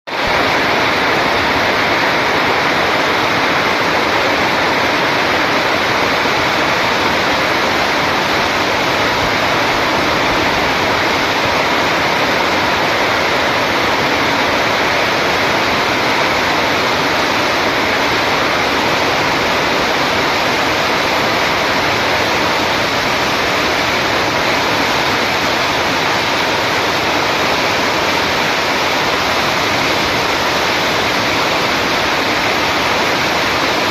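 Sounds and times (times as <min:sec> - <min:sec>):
heavy rain hissing: 0:00.1 - 0:33.9.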